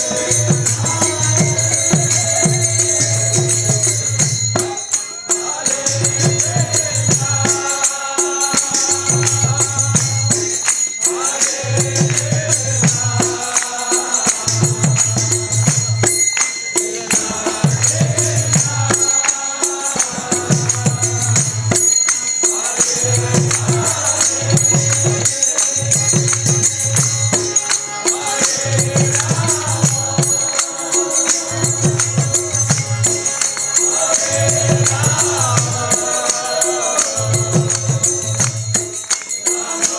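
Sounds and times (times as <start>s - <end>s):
group chanting: 0.0s - 39.9s
hand cymbals jingling: 0.0s - 39.9s
hand drums: 0.0s - 39.9s.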